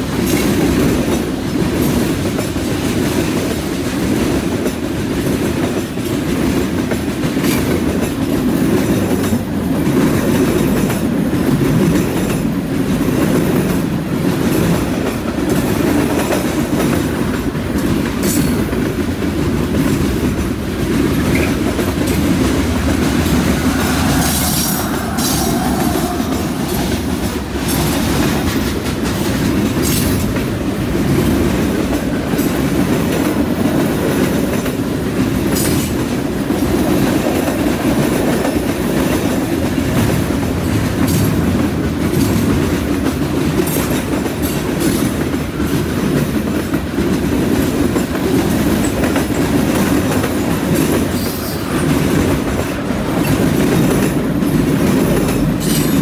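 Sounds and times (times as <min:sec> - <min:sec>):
diesel locomotive passing: 0:00.0 - 0:56.0
freight train rumbling past: 0:00.0 - 0:56.0.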